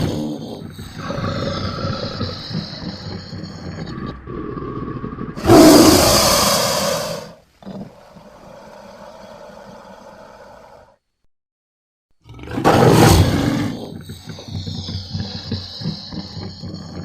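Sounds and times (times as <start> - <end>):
monster roaring and growling: 0.0 - 10.8, 12.2 - 17.0.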